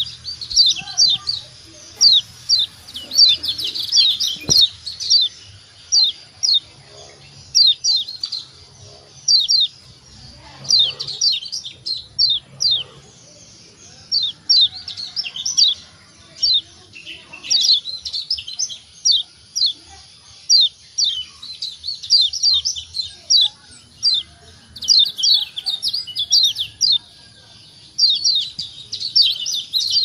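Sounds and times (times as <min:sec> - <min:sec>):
bird high chirps: 0:00.0 - 0:30.0.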